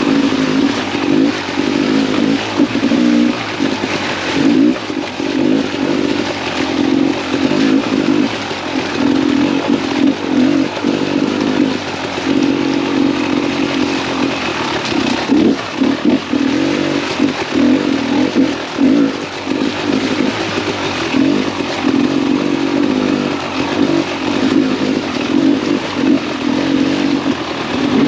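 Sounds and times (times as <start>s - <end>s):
two-stroke motorcycle engine revving: 0.0s - 28.0s.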